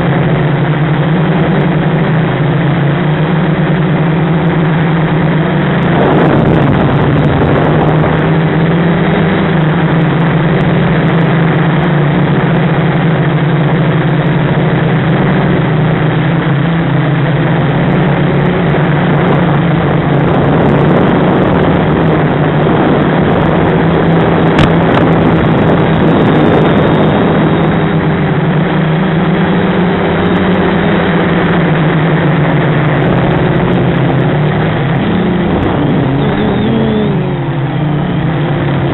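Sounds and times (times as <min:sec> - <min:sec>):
drone motors and propellers buzzing: 0:00.0 - 0:38.9.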